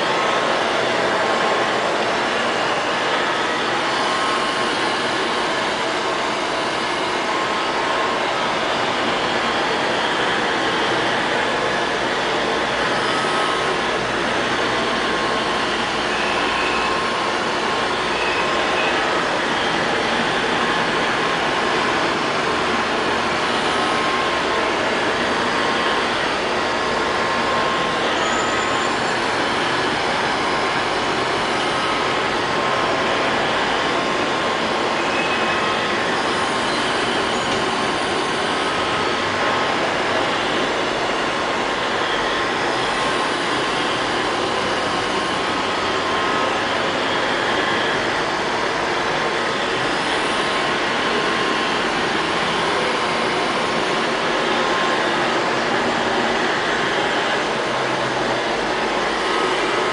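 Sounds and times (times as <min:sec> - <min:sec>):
robot vacuum cleaner whirring: 0:09.3 - 0:59.9.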